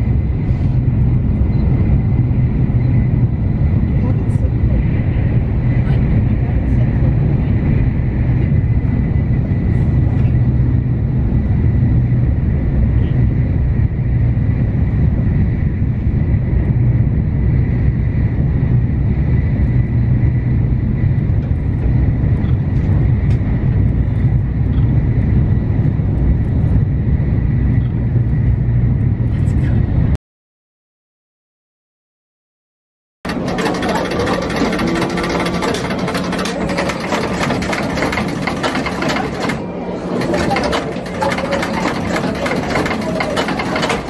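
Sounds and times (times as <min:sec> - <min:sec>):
wheels rumbling on rail: 0:00.0 - 0:30.2, 0:33.3 - 0:44.0.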